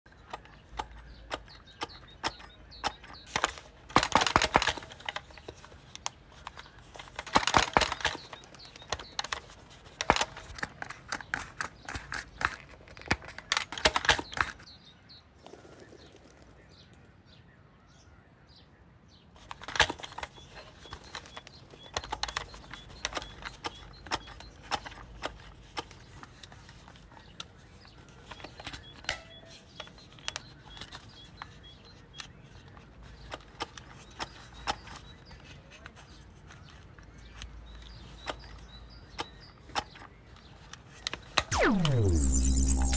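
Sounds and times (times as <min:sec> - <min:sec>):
plastic toy clicks and taps: 0:00.1 - 0:14.6, 0:19.5 - 0:27.6, 0:28.2 - 0:41.5.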